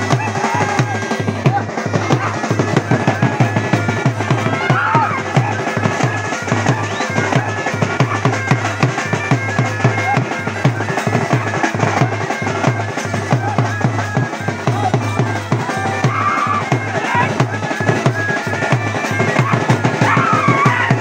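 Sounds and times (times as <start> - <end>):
bass drum and drums beating: 0.0 - 21.0
wind instrument melody: 0.0 - 21.0.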